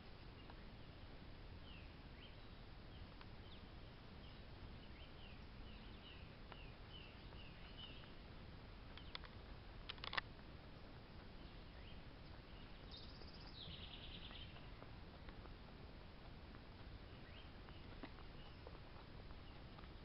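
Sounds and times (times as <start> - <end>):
birds chirping: 0.0 - 20.0
low hiss: 0.0 - 20.0.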